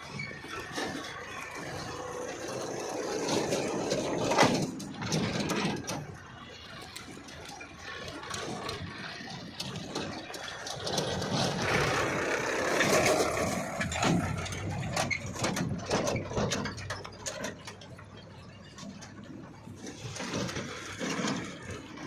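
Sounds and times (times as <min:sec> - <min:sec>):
machinery clanking and rattling: 0:00.0 - 0:22.0.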